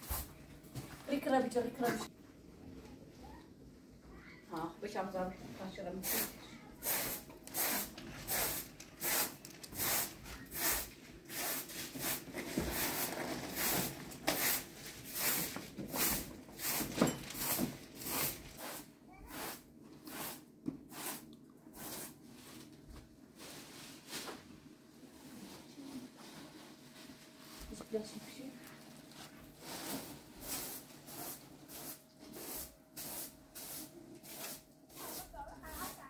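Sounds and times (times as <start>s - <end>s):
broom sweeping carpet: 0.0s - 1.1s, 5.5s - 28.4s, 29.1s - 36.0s.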